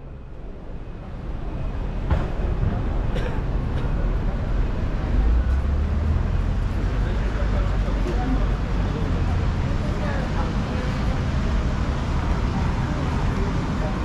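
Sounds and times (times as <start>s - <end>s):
faint voices of passers-by: 0.0s - 14.0s
traffic rumble: 0.0s - 14.0s.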